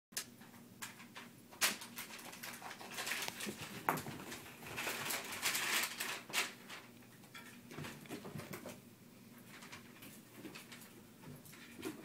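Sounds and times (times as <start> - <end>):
kittens scuffling with foil balls: 0.4 - 12.0.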